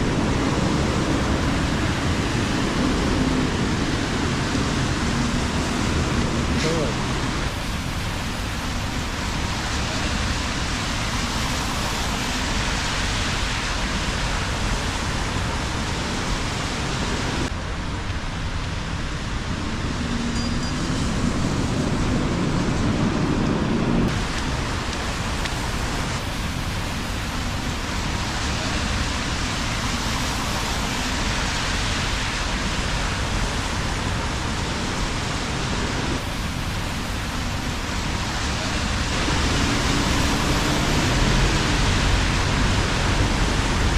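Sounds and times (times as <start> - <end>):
rain falling on wet street: 0.0 - 43.9
traffic on wet road: 0.0 - 43.9.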